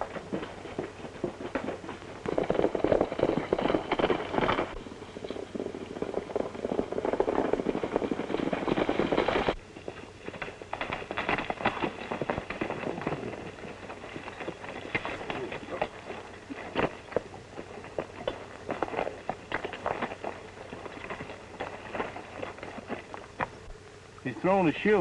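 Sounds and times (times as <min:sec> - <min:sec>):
horses galloping: 0:00.0 - 0:25.0.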